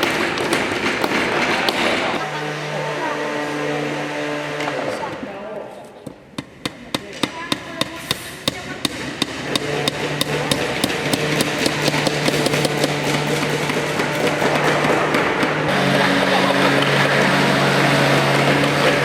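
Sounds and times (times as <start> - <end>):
hammers nailing wooden boards: 0.0 - 2.7, 6.1 - 19.0.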